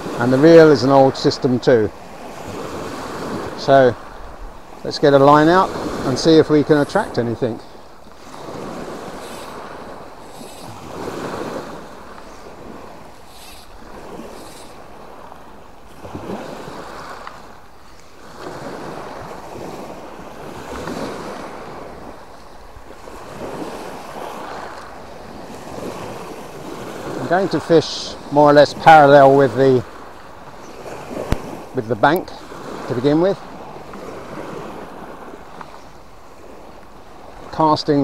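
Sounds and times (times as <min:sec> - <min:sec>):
wind on microphone: 0:00.0 - 0:27.4, 0:28.2 - 0:37.5
small waves breaking on shore: 0:00.0 - 0:38.0.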